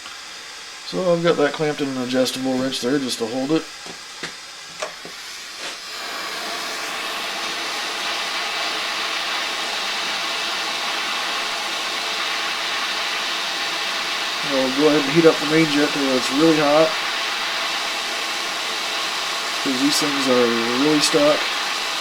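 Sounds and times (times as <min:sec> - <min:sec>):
gas torch flame hissing: 0:00.0 - 0:22.0.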